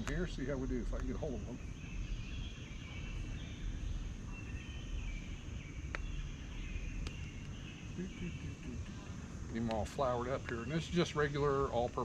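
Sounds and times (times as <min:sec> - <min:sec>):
low rumble: 0:00.0 - 0:10.5
birds chirping: 0:00.0 - 0:12.0
insects chirping: 0:00.0 - 0:12.0.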